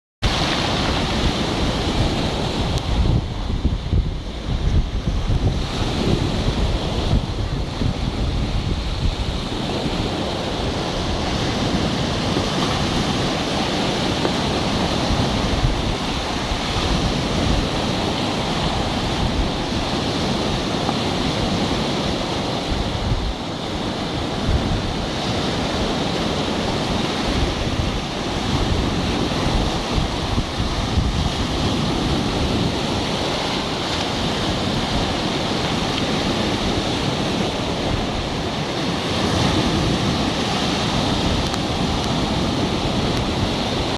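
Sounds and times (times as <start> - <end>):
surf washing in: 0.2 - 43.9
wind buffeting microphone: 0.2 - 43.9.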